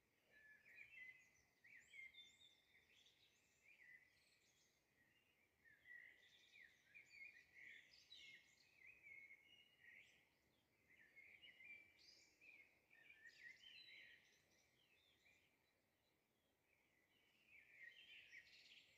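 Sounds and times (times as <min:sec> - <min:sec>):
faint birdsong: 0:00.0 - 0:18.9.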